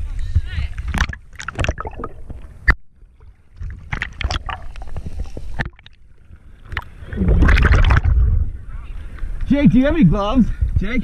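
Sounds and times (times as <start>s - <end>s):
water splashing and sloshing: 0.0s - 9.3s
low underwater rumble: 0.0s - 9.5s.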